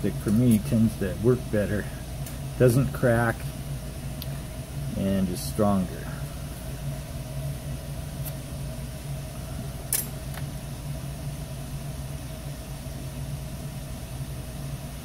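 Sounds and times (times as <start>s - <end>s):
cooling fans running: 0.0s - 15.0s
printer humming: 0.0s - 15.0s.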